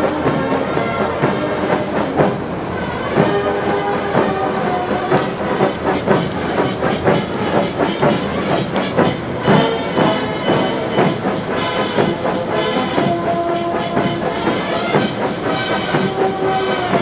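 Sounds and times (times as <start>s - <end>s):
brass band playing a march: 0.0s - 17.0s
tracked vehicles rattling: 0.0s - 17.0s.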